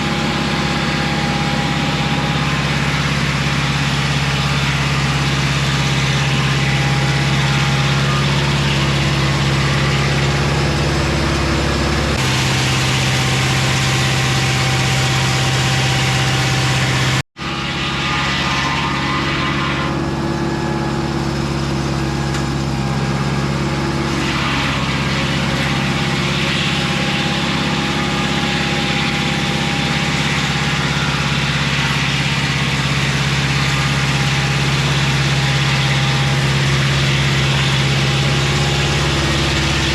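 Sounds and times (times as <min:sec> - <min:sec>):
circular saw blade cutting: 0:00.0 - 0:39.9
engine droning: 0:00.0 - 0:39.9.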